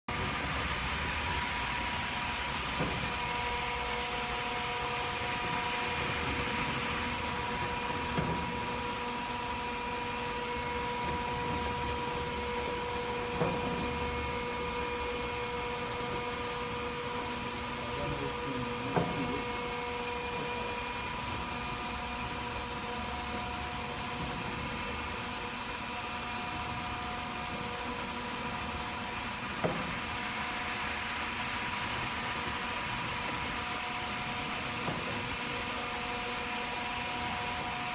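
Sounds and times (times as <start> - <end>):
machine humming with tones: 0.1 - 37.9.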